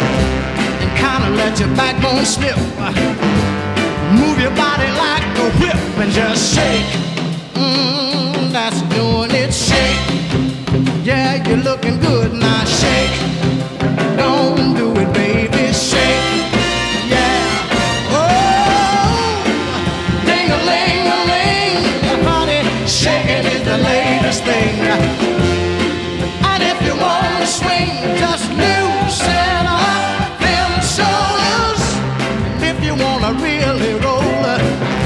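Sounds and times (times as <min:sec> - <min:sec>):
upbeat rock and roll song: 0:00.0 - 0:35.0.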